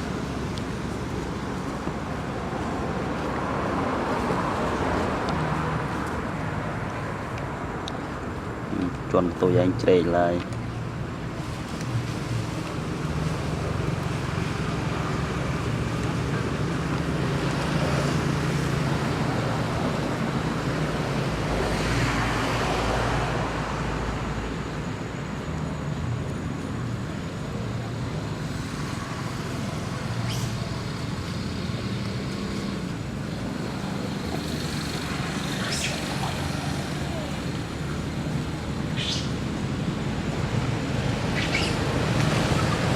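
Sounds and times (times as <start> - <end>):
road traffic noise: 0.0 - 42.9
vehicle passing: 0.0 - 42.9.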